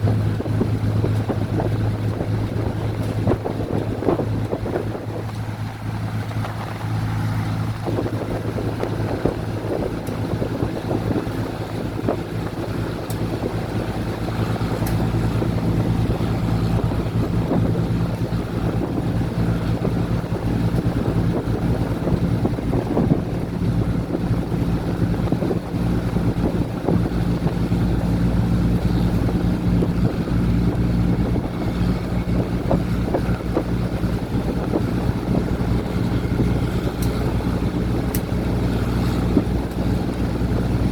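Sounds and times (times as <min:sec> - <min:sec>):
diesel train engine drone: 0:00.0 - 0:40.9.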